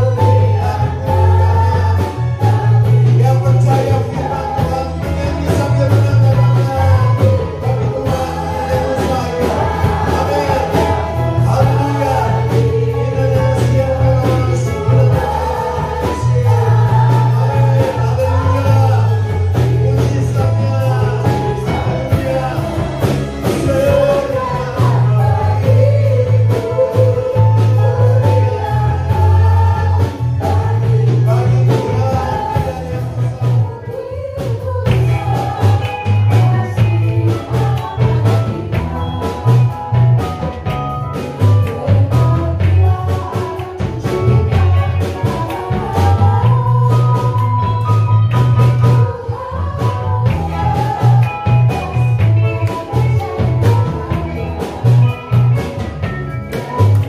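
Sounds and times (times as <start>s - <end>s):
heavy bass line: 0.0s - 57.0s
people singing together: 0.0s - 57.0s
worship band playing: 0.0s - 57.0s.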